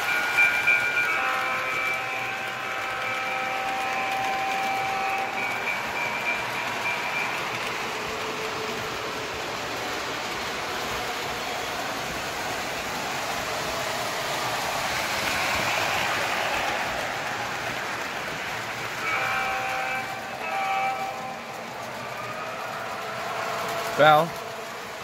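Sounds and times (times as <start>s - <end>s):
model trains rumbling on track: 0.0s - 25.0s.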